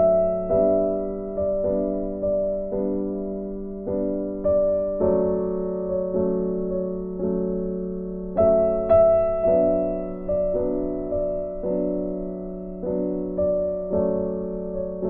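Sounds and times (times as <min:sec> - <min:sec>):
slow keyboard chords: 0:00.0 - 0:15.0.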